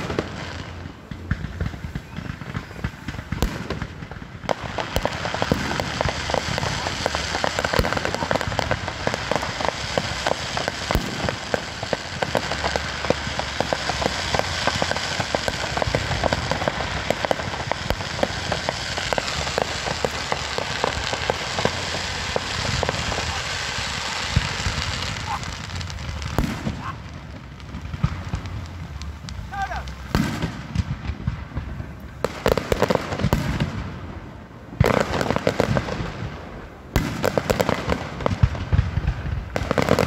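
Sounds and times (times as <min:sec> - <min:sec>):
fireworks crackling: 0:00.0 - 0:40.0
loud firework bangs: 0:00.0 - 0:40.0.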